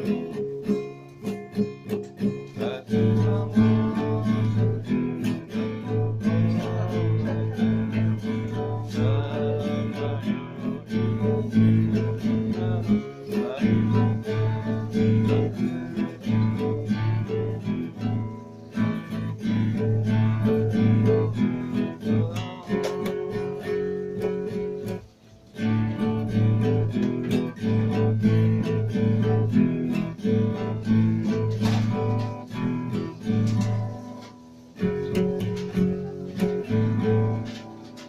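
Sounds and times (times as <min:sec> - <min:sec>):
acoustic guitar strumming chords: 0:00.0 - 0:38.0.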